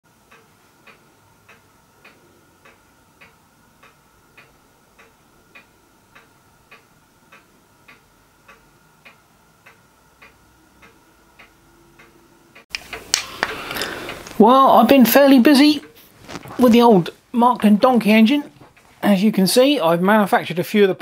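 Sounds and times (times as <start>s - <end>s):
clock ticking: 0.1s - 13.1s, 13.7s - 16.0s, 16.6s - 18.9s
faint steady hum: 0.1s - 21.0s.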